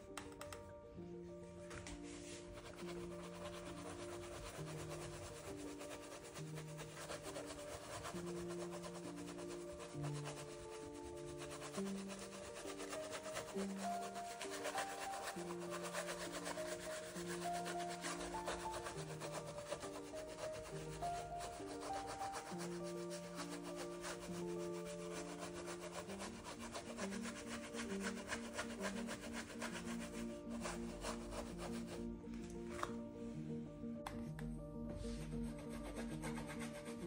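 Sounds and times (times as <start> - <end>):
soft background music: 0.0 - 37.0
paintbrush scrubbing rough surface: 2.1 - 32.1, 35.1 - 37.0.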